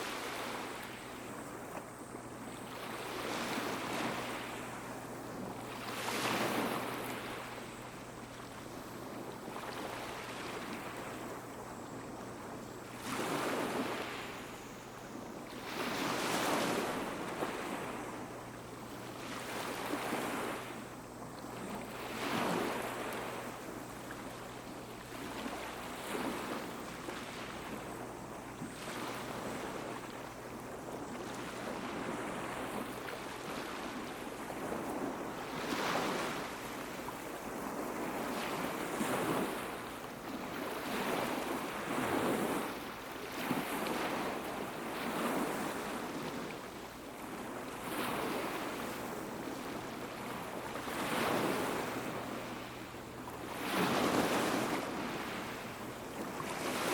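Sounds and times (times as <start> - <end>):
small waves washing onto beach: 0.0 - 56.9.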